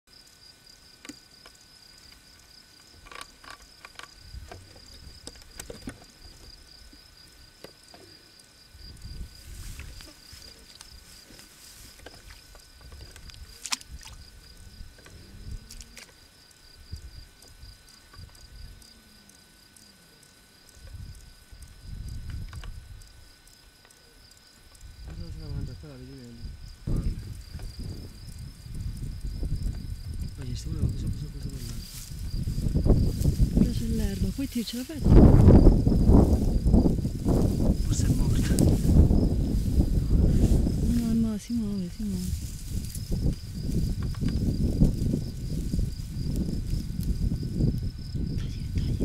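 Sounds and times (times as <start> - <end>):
insect trilling: 0.1 - 49.0.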